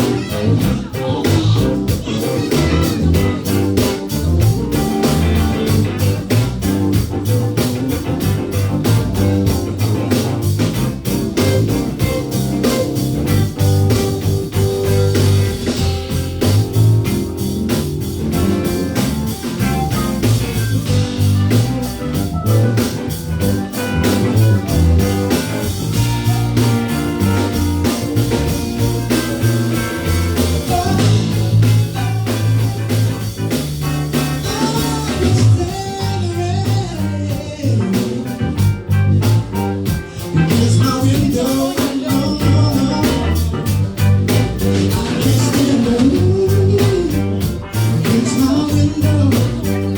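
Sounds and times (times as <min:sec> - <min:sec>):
bass guitar: 0:00.0 - 0:49.9
drum kit beat: 0:00.0 - 0:49.9
electric guitar: 0:00.0 - 0:49.9.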